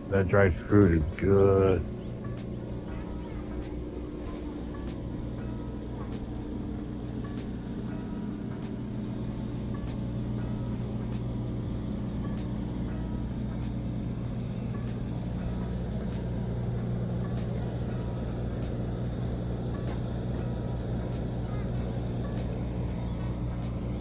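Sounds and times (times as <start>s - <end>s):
vehicle engine humming: 0.0s - 24.0s
faint regular clicks: 1.8s - 24.0s.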